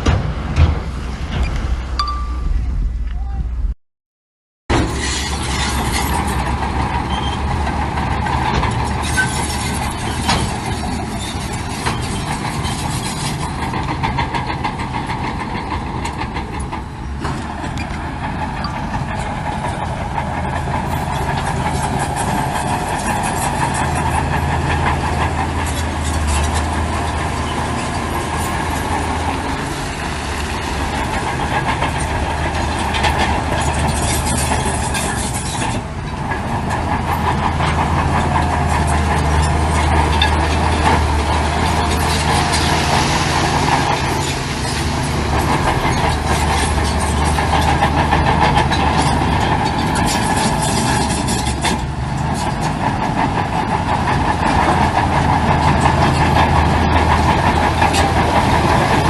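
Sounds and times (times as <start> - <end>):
heavy diesel machinery clattering: 0.0 - 3.3, 4.7 - 59.0.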